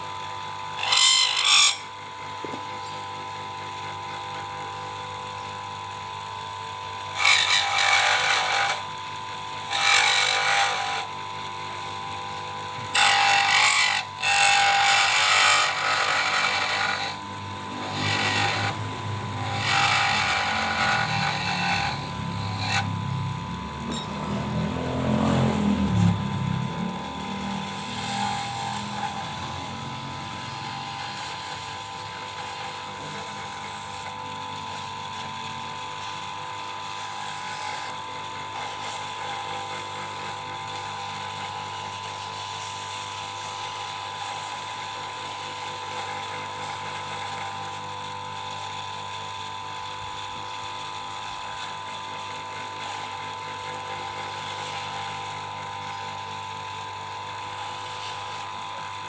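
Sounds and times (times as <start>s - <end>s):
electric lathe motor whining: 0.0s - 59.0s.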